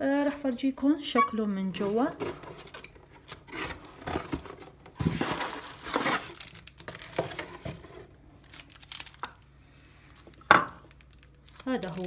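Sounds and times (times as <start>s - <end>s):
plastic bag crinkling: 1.8s - 12.0s.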